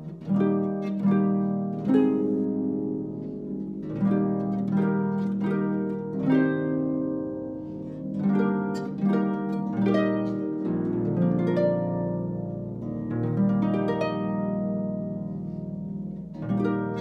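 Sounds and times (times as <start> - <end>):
solo harp playing: 0.0 - 17.0.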